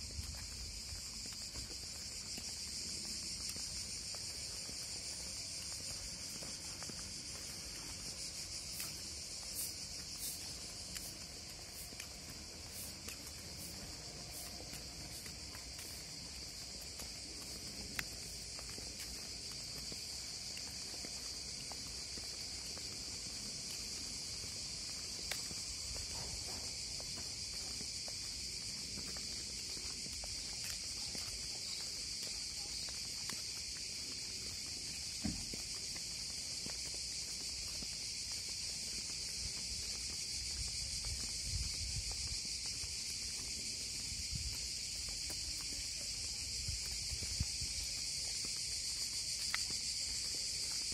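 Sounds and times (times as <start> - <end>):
cicadas buzzing: 0.0 - 50.9
faint footstep clicks: 0.2 - 50.9.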